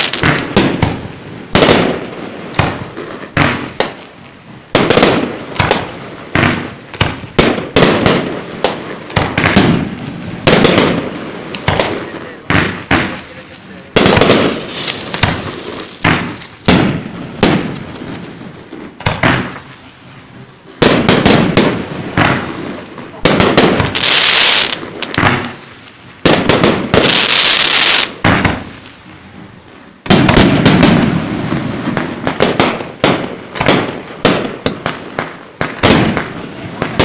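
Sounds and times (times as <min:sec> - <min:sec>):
fireworks bangs: 0:00.0 - 0:37.0
fireworks crackling: 0:00.0 - 0:37.0
fireworks hissing: 0:00.0 - 0:37.0.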